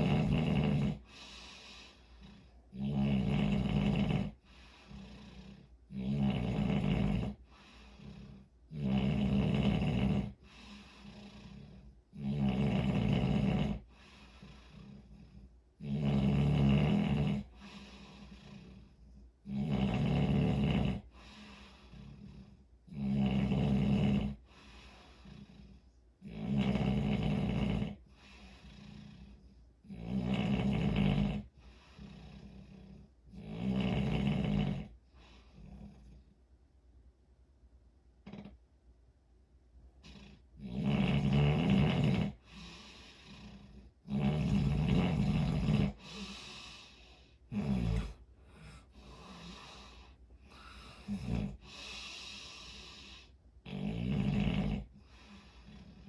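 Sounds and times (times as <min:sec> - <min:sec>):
person snoring: 0:00.0 - 0:36.3, 0:38.2 - 0:38.6, 0:40.0 - 0:56.0
quiet breaths: 0:00.0 - 0:56.0.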